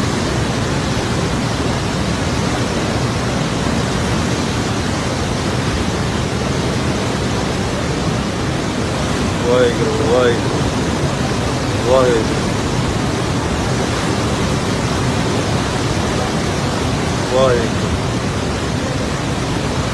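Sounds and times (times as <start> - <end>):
river water rushing: 0.0 - 19.9.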